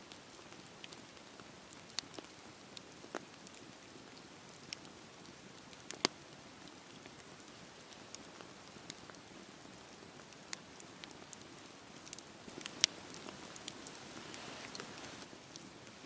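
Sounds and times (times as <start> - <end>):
campfire crackling: 0.0 - 16.0
burning wood popping: 0.3 - 16.0.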